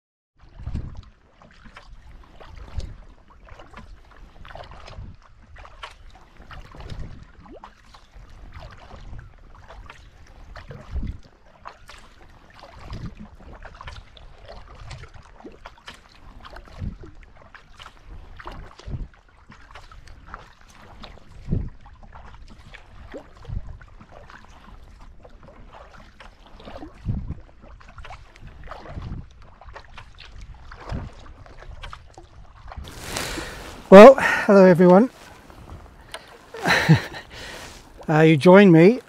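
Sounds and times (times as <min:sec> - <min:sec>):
paddle splashing water: 0:00.4 - 0:39.0
water lapping along hull: 0:00.4 - 0:39.0.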